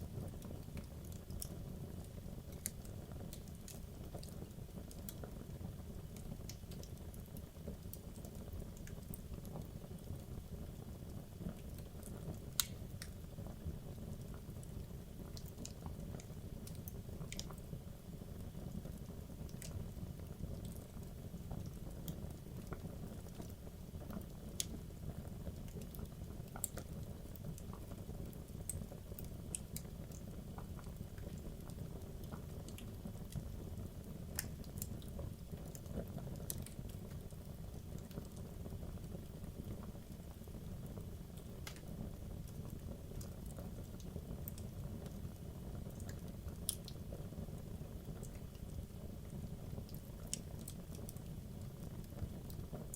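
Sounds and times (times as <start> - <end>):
fire crackles and pops: 0.0 - 52.9
low rumble of flames: 0.0 - 52.9.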